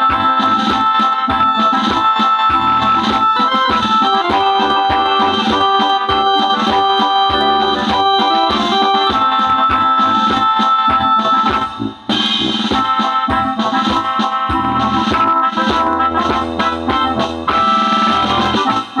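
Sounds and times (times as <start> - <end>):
keyboard backing music: 0.0 - 19.0.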